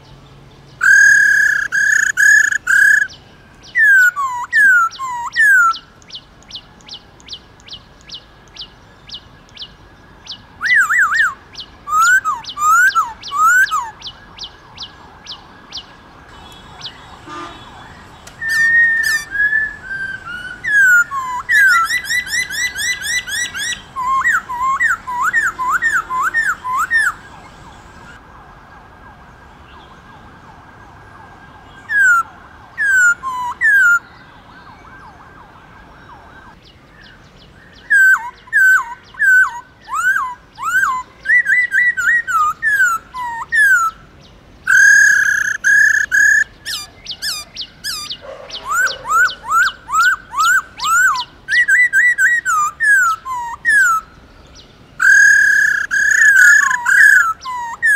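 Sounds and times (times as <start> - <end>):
bird singing whistled notes: 0.7 - 28.2, 36.6 - 57.9.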